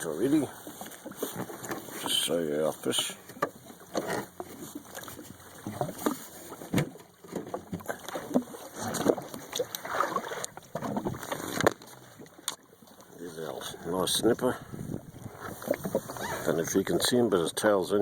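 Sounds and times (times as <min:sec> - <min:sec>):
waves slapping against hull: 0:00.0 - 0:18.0.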